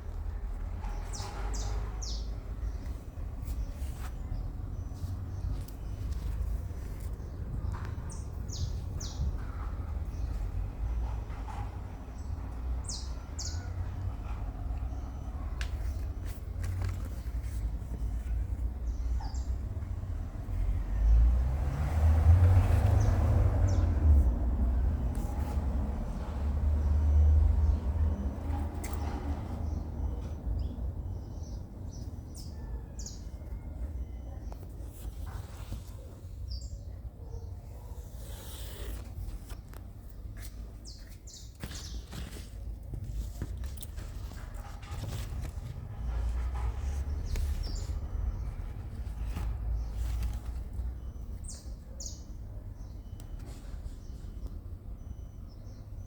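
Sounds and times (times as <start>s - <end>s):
birds chirping: 0.3s - 21.3s, 27.6s - 56.0s.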